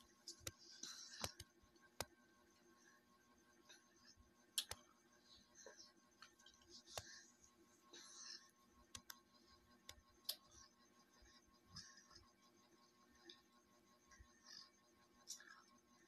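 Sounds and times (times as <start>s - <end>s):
soft breathy sounds: 2.6s - 16.0s.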